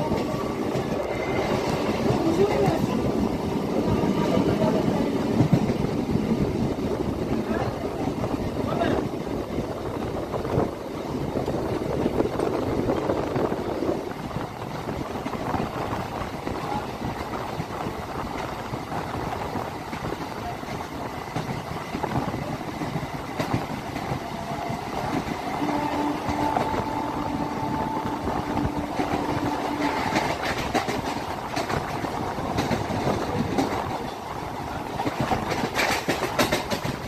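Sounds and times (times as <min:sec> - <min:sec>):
train wheels and wind rushing: 0:00.0 - 0:37.0.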